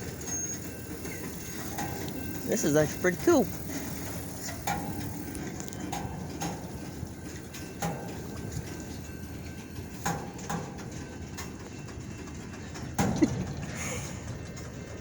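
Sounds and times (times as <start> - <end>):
freight train rumbling: 0.0 - 15.0
sharp metallic clanks: 0.3 - 14.8.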